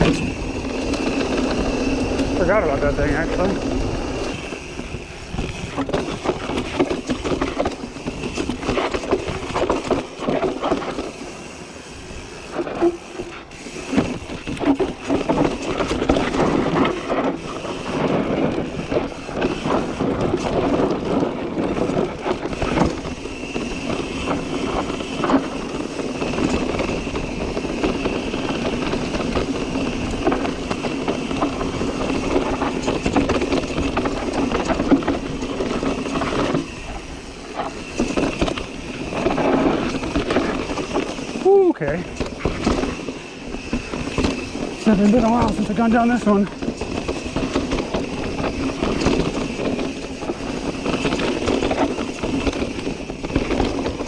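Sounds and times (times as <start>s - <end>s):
bike chain and frame clatter: 0.0s - 54.0s
bike tyre and wind noise: 0.0s - 54.0s.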